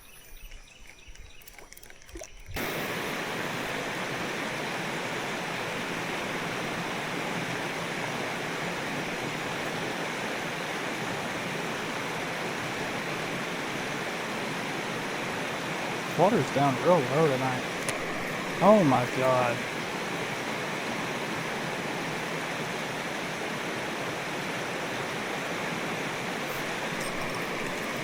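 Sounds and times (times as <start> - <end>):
creek water flowing: 0.4 - 28.0.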